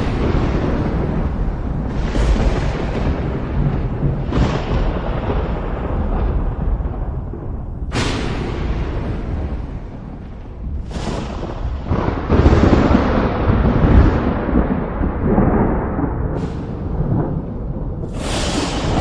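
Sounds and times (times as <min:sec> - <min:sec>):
thunder cracks and rumble: 0:00.0 - 0:19.0.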